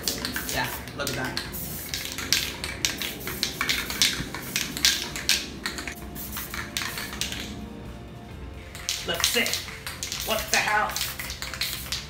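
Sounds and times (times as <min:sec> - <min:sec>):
spray can hissing bursts: 0:00.0 - 0:07.6, 0:08.6 - 0:12.0.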